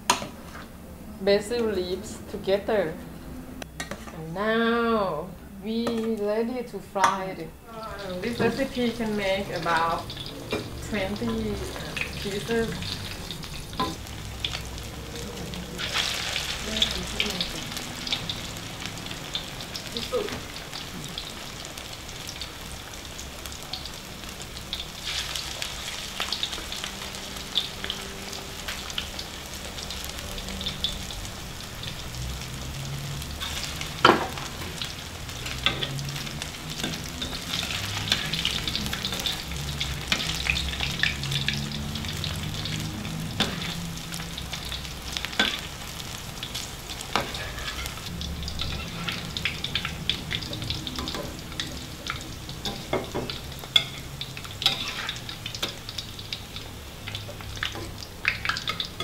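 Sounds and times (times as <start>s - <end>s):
oil sizzling and popping: 3.6s - 4.2s, 7.0s - 59.0s.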